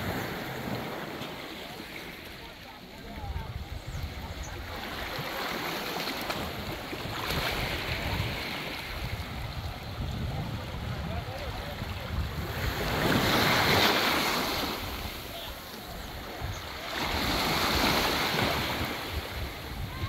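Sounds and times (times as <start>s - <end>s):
waves washing onto rocky shore: 0.0s - 20.0s
wind buffeting microphone: 3.0s - 20.0s.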